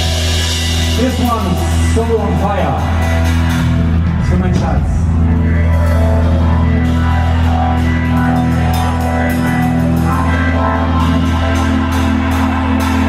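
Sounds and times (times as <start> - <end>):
blues-rock band playing: 0.0 - 13.0.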